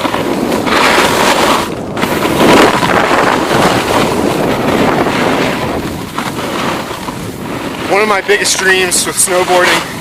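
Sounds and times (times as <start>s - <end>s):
gusty wind on microphone: 0.0s - 10.0s.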